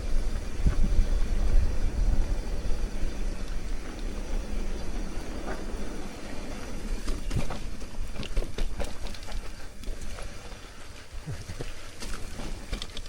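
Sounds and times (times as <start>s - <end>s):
bike knocking and rattling: 0.0s - 13.0s
wind rumble on microphone: 0.0s - 13.0s.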